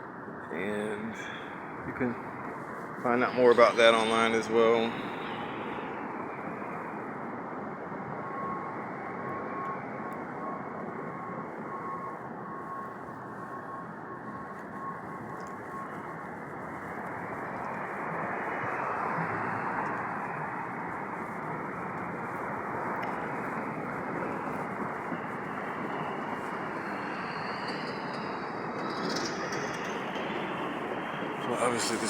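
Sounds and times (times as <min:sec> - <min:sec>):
city street traffic: 0:00.0 - 0:32.0.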